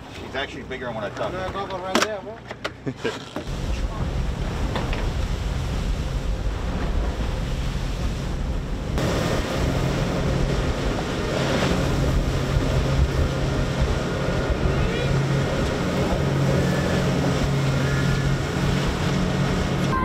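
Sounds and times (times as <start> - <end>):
outboard engines humming: 0.0 - 20.0
water rushing off boat hull: 3.2 - 20.0
wind buffeting microphone: 3.5 - 20.0.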